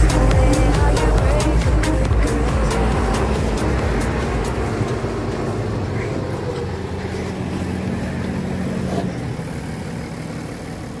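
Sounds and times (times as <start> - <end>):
tractor engine running under load: 0.0 - 11.0.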